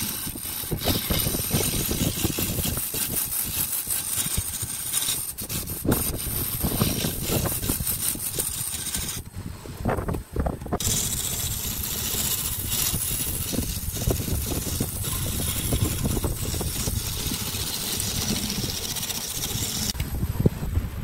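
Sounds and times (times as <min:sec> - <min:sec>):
lathe tool scraping wood: 0:00.0 - 0:09.3, 0:10.7 - 0:20.0.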